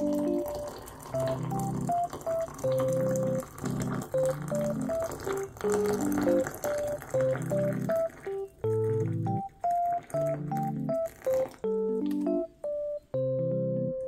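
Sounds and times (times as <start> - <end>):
water pouring into jug: 0.0 - 11.6
gentle keyboard music: 0.0 - 14.0.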